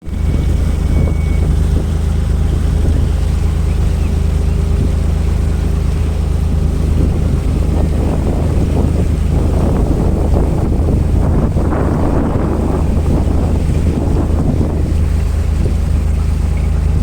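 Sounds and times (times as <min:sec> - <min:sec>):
engine running: 0:00.0 - 0:17.0
wind buffeting microphone: 0:00.0 - 0:17.0.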